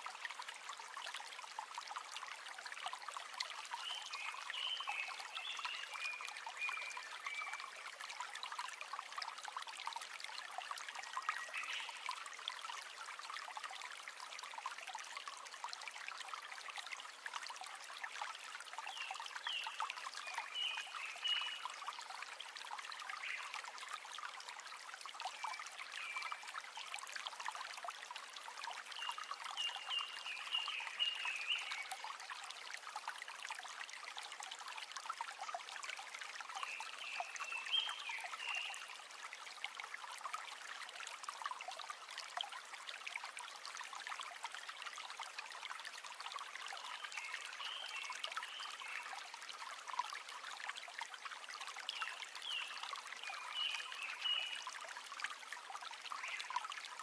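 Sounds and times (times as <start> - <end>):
river water babbling: 0.0 - 57.0.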